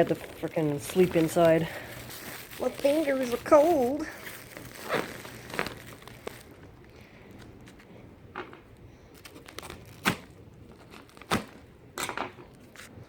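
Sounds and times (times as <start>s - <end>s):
packaging crinkles: 0.0s - 12.9s
packaging rustling: 0.0s - 12.9s.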